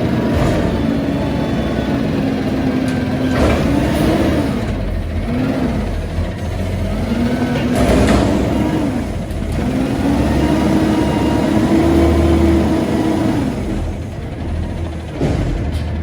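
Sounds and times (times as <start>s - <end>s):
garbage truck engine revving: 0.0s - 16.0s.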